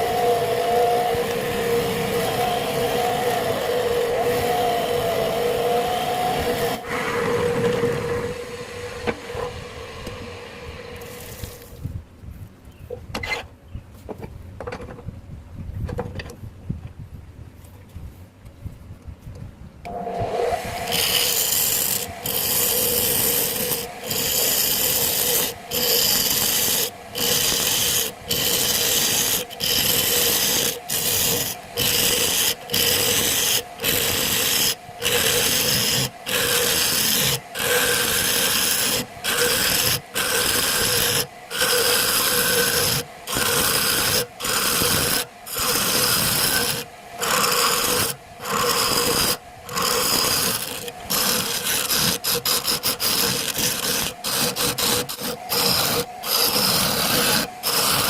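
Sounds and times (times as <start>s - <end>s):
wood lathe tool rasping hiss: 0.0s - 11.8s, 19.9s - 58.0s.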